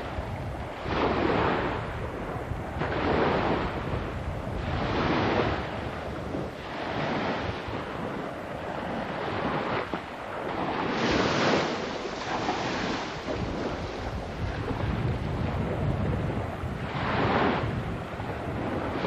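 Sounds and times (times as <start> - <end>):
surf washing on shore: 0.0 - 19.0
wind buffeting microphone: 0.0 - 19.0.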